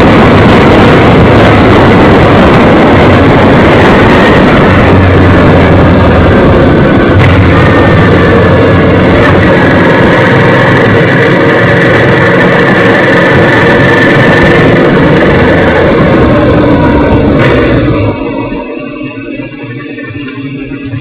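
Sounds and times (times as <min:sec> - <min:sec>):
faint rising whine: 0:00.0 - 0:21.0
motorcycle engine running: 0:00.0 - 0:21.0
wind rush on microphone: 0:00.0 - 0:21.0.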